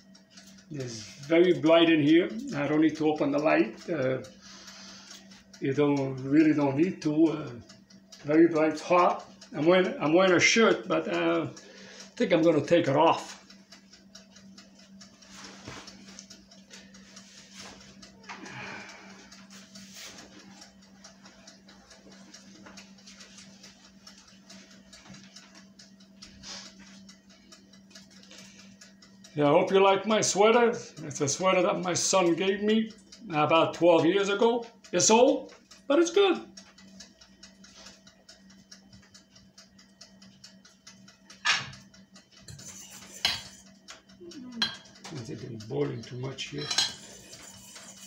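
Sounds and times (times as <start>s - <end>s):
faint ticking and crackling: 0.0s - 48.0s.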